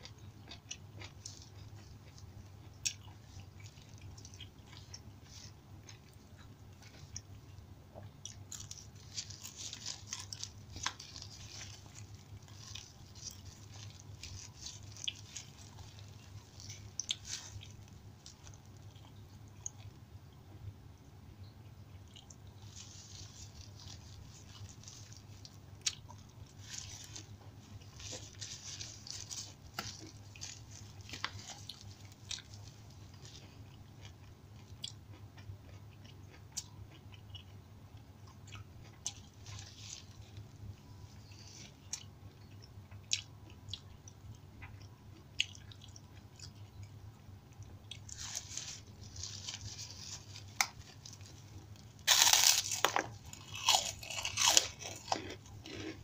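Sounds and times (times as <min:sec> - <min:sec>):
person chewing: 0:00.0 - 0:20.0, 0:21.9 - 0:56.0.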